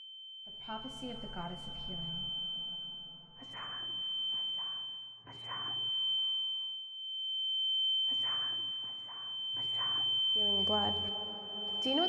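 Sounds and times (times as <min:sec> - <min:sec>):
high-pitched ringing tone: 0:00.0 - 0:12.0.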